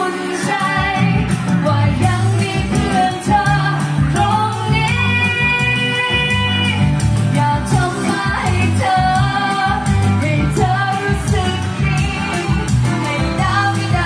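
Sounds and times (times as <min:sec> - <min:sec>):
band playing: 0:00.0 - 0:14.0
woman singing into microphone: 0:00.0 - 0:14.0.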